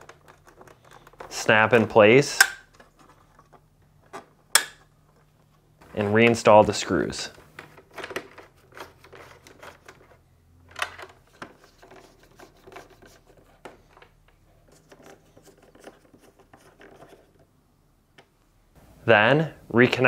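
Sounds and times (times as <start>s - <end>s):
hands handling plastic parts: 0.0s - 18.4s.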